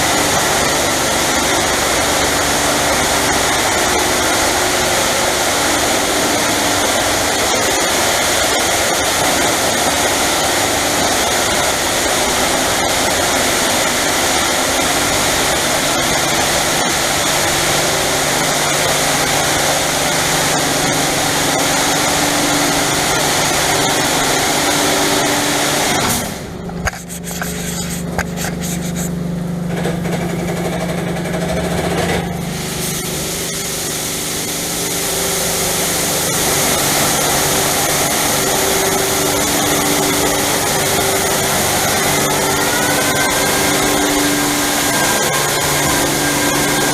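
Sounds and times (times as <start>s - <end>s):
high pressure water spray: 0.0s - 26.3s, 32.4s - 46.9s
pump and motors humming: 0.0s - 46.9s.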